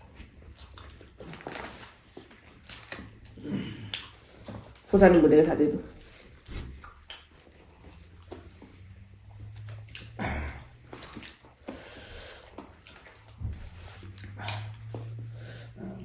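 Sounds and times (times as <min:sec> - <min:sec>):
chewing and mouth smacking: 0:00.0 - 0:05.2, 0:05.9 - 0:16.0.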